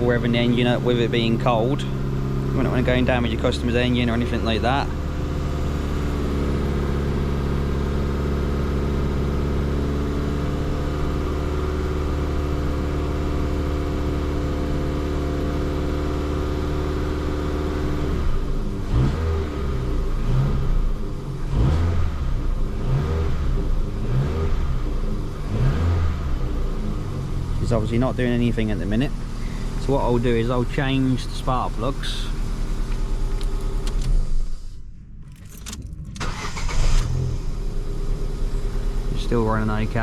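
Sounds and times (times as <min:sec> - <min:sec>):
car engine warming up: 0:00.0 - 0:40.0.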